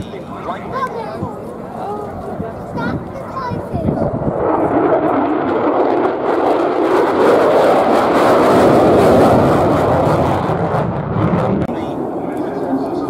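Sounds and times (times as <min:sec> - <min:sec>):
jet engine roaring past: 0:00.0 - 0:13.0.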